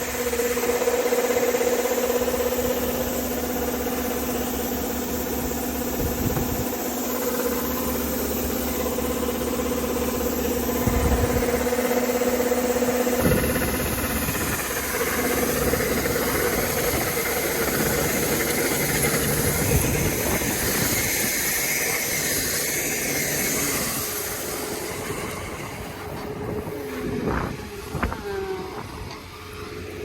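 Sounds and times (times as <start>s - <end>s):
combine harvester whining: 0.0s - 30.0s.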